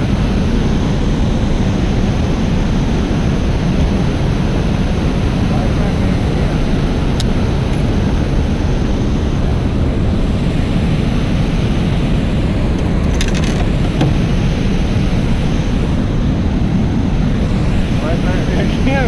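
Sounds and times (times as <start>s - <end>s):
churning water rushing: 0.0s - 19.0s
wind buffeting microphone: 0.0s - 19.0s.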